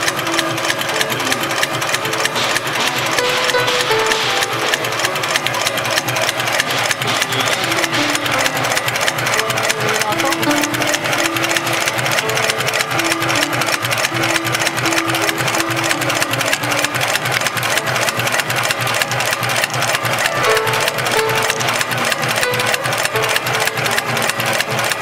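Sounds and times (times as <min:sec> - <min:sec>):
sewing machine needle clatter: 0:00.0 - 0:25.0.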